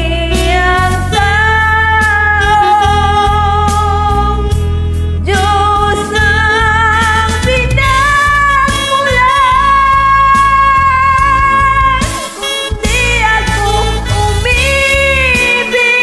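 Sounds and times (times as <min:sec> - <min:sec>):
recorded backing track: 0:00.0 - 0:16.0
woman singing karaoke: 0:00.0 - 0:16.0.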